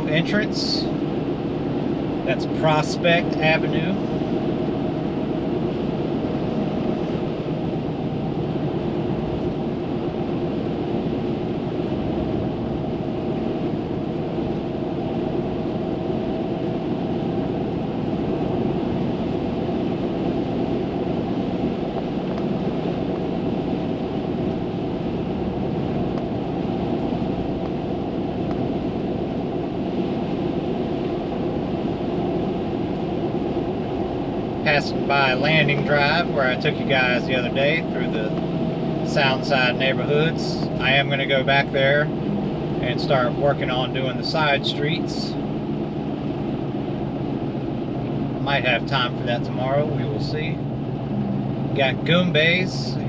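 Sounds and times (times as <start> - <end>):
car engine hum: 0.0 - 53.0
road noise: 0.0 - 53.0.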